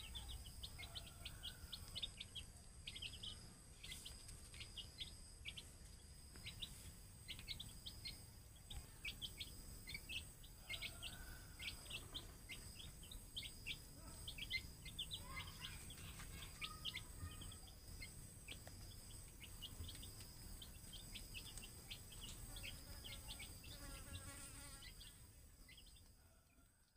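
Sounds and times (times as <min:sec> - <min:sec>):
chicks peeping: 0:00.0 - 0:26.9.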